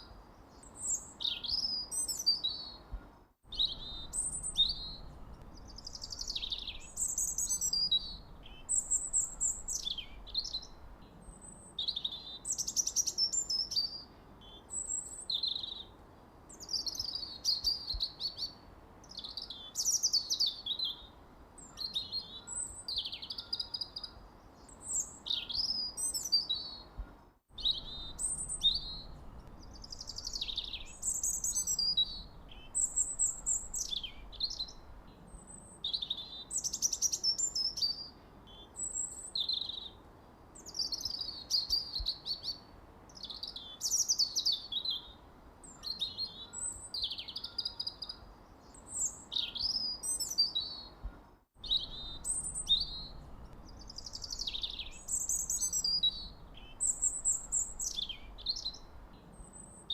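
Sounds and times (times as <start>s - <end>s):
faint low hiss: 0.0s - 59.9s
songbirds singing: 0.0s - 59.9s.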